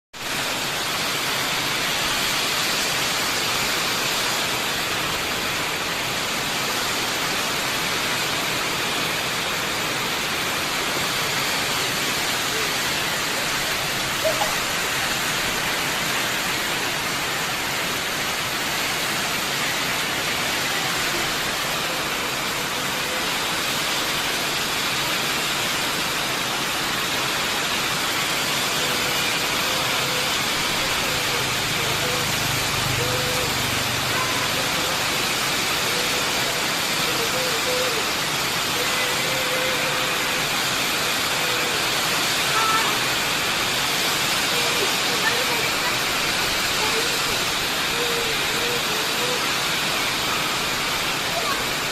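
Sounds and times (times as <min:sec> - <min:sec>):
heavy rain falling: 0:00.2 - 0:51.9.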